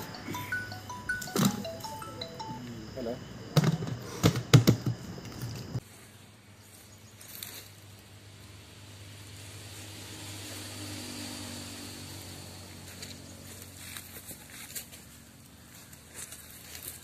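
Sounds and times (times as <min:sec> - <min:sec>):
distant engine hum: 0:00.0 - 0:17.0.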